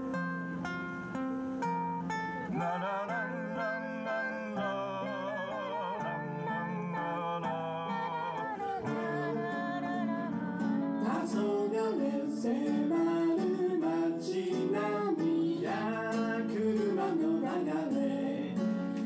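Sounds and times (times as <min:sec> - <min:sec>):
acoustic guitar: 0:00.0 - 0:19.0
man singing: 0:02.5 - 0:19.0.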